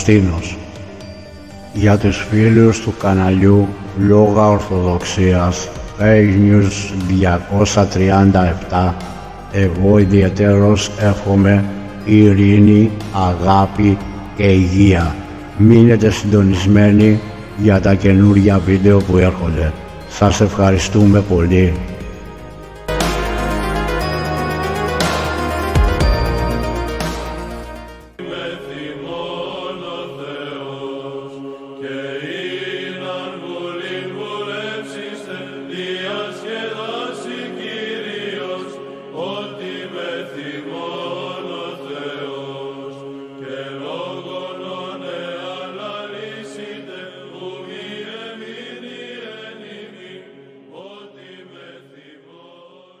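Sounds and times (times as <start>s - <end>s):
chanted vocal music: 0.0s - 53.0s.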